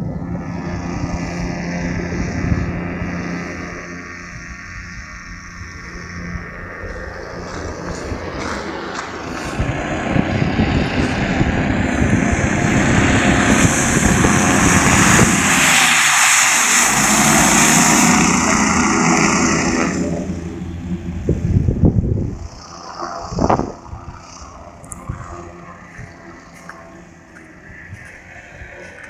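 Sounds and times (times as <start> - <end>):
airboat engine and propeller: 0.0 - 29.0.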